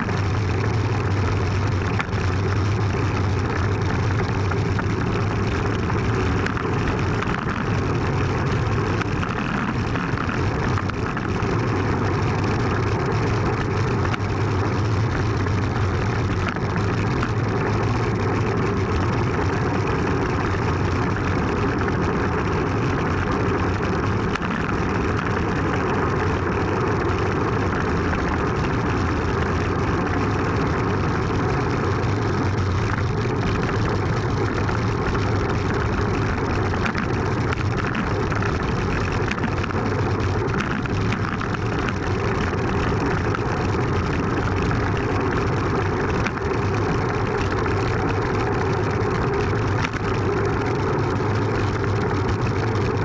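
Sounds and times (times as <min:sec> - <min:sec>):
road rumble: 0:00.0 - 0:53.0.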